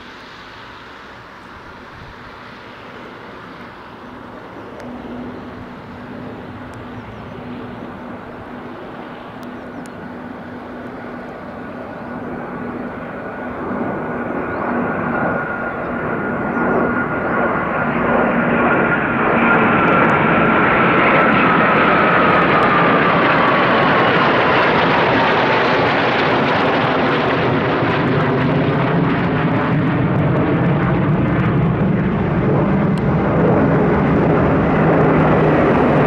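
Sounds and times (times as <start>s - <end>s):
jet engines flying over: 0.0s - 36.0s.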